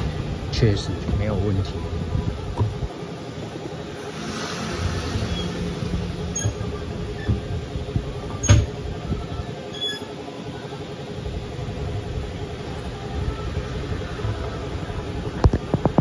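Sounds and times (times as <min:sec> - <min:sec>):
scooter engine humming: 0:00.0 - 0:16.0.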